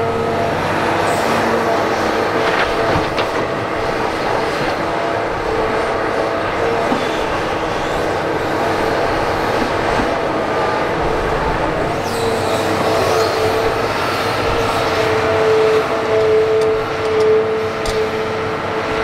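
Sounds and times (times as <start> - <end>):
excavator diesel engine: 0.0 - 19.0
hydraulic whine: 0.0 - 19.0.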